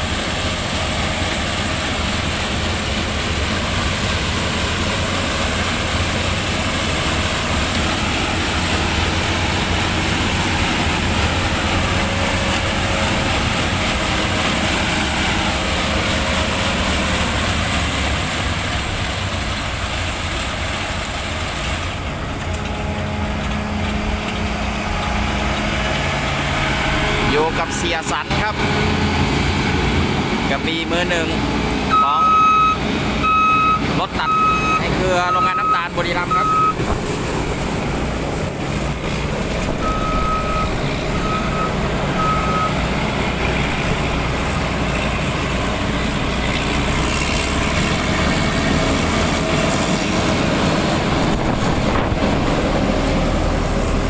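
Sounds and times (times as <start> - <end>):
harvester diesel engine running: 0.0 - 54.0.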